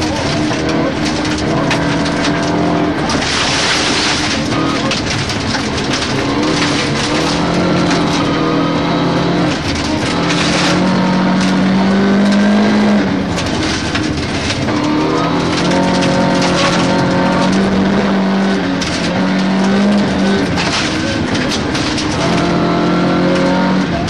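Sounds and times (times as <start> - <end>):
gravel crunching under car: 0.0 - 24.0
rally car engine accelerating: 0.0 - 24.0.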